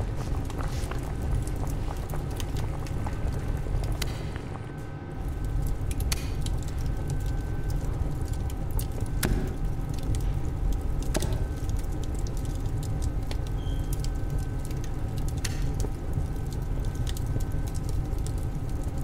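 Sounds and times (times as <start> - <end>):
fire crackles and clicks: 0.0 - 19.0
oven fire rumble: 0.0 - 19.0.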